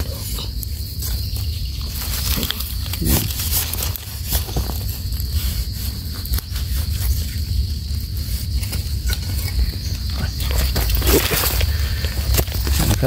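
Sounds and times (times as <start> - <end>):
knife scraping in soil: 0.0 - 13.0
steady low rumble: 0.0 - 13.0.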